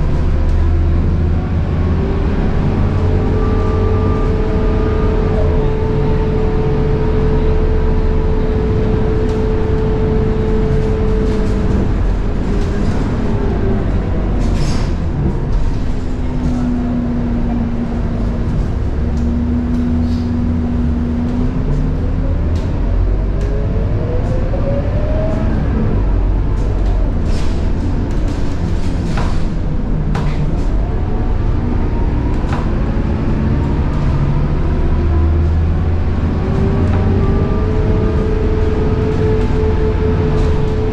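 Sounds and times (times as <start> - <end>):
bus diesel engine under load: 0.0 - 40.9.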